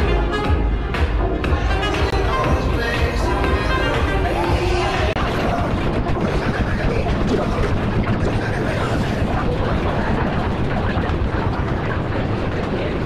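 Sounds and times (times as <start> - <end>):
indistinct voices and chatter: 0.0 - 13.0
steady low rumble: 0.0 - 13.0.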